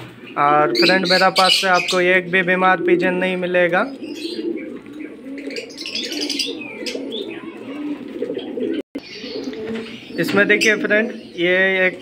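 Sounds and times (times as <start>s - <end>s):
birds chirping: 0.0s - 12.0s
pigeons cooing: 0.0s - 12.0s.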